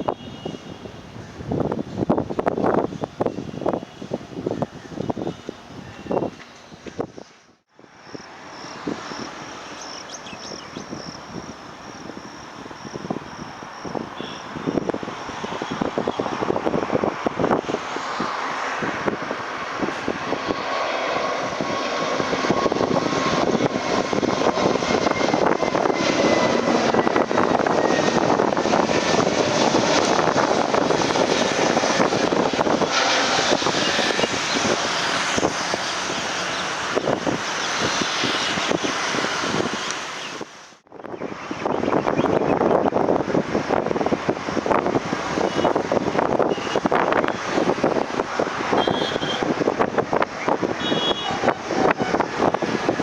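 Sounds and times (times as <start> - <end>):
jet airliner engines: 0.0 - 53.0.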